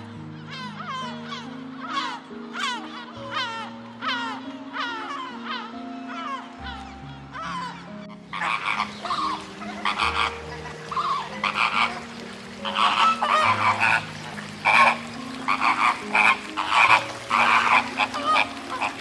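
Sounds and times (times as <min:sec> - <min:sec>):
flamingos honking: 0:00.0 - 0:19.0.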